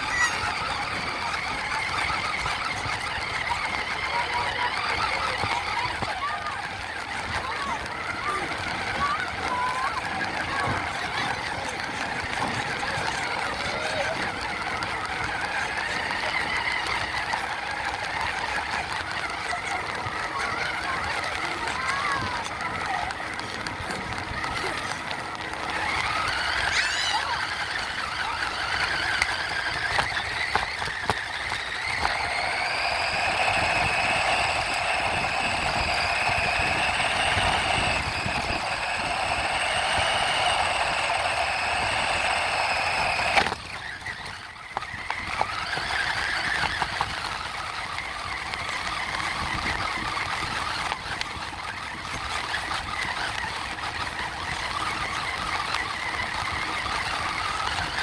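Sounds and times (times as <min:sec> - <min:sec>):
toy truck motor whining: 0:00.0 - 0:58.0.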